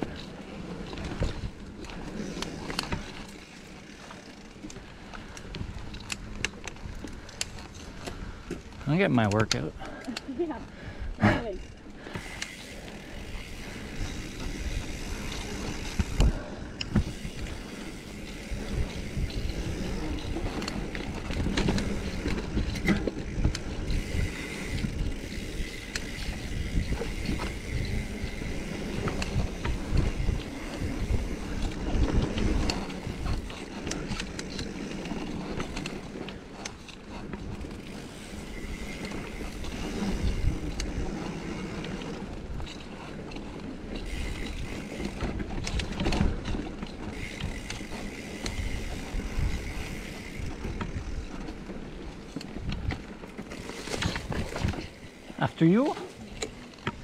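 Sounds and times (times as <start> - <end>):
bike rattling and clicking: 0.0 - 57.0.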